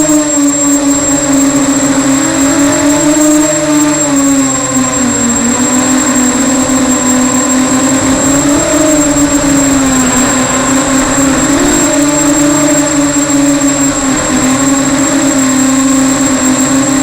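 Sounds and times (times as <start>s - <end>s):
drone motors buzzing: 0.0s - 17.0s
steady high whine: 0.0s - 17.0s.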